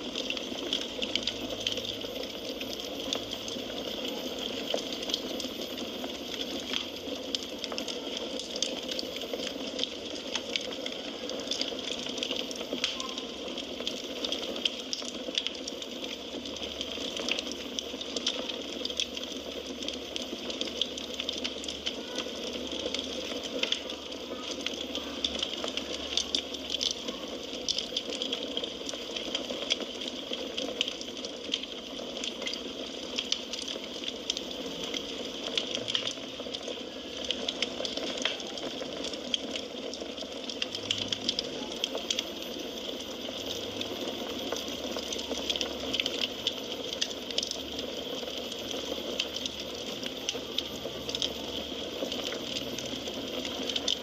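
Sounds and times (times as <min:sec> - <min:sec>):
fireplace flames hissing: 0:00.0 - 0:54.0
firewood crackling and popping: 0:00.0 - 0:54.0.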